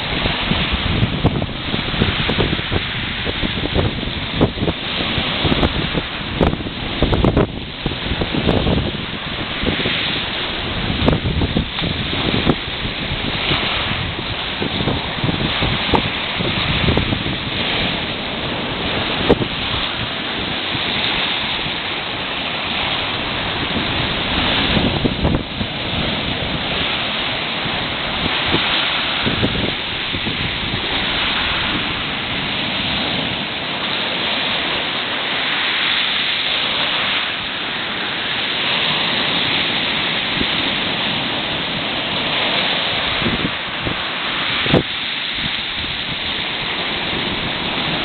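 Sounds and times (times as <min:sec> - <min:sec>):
sea surf rushing on shore: 0:00.0 - 0:48.0
wind buffeting microphone: 0:00.0 - 0:48.0.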